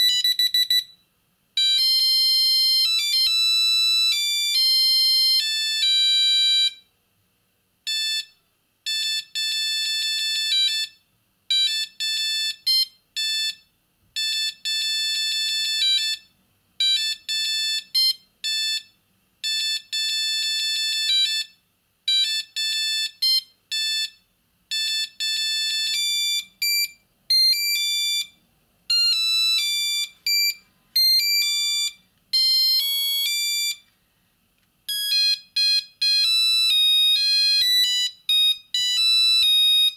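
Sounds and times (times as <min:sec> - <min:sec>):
mobile phone ringtone beeps: 0:00.0 - 0:01.0, 0:01.6 - 0:06.8, 0:07.9 - 0:13.6, 0:14.2 - 0:33.8, 0:34.9 - 0:39.9.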